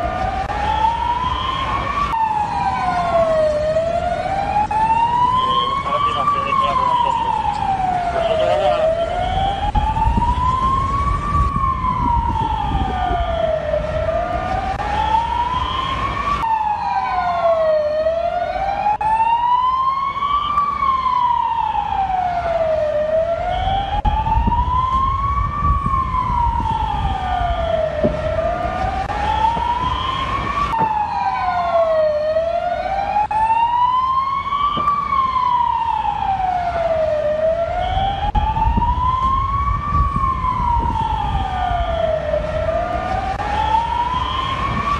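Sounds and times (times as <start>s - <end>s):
siren wailing: 0.0s - 44.9s.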